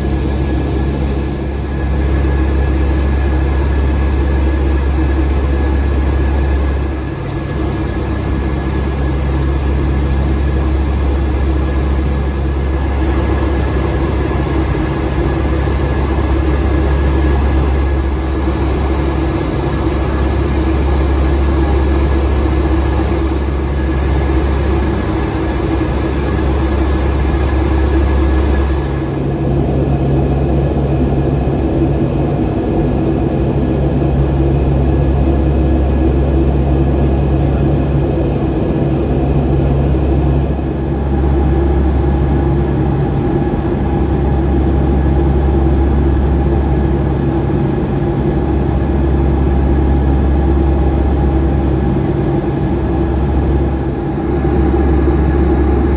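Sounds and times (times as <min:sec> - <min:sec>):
airplane cabin drone: 0:00.0 - 0:55.9
thin steady engine whine: 0:00.0 - 0:55.9.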